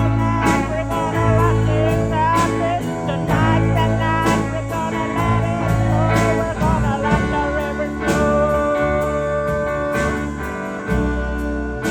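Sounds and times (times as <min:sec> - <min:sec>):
bass line: 0:00.0 - 0:11.9
slide guitar song: 0:00.0 - 0:11.9
steady beat: 0:00.0 - 0:11.9.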